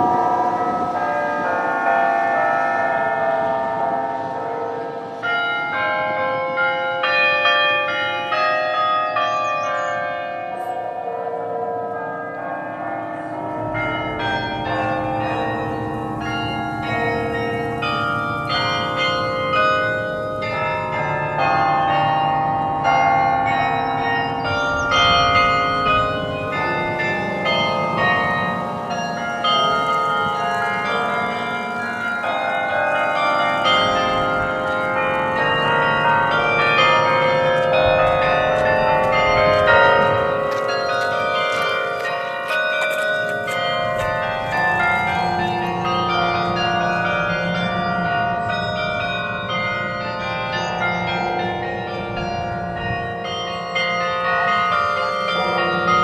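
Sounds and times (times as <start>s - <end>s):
carillon bells playing a melody: 0.0s - 56.0s.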